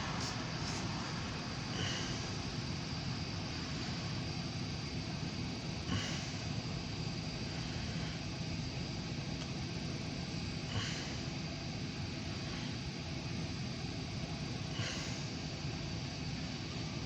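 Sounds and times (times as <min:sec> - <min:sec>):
diesel locomotive rumble: 0:00.0 - 0:13.7.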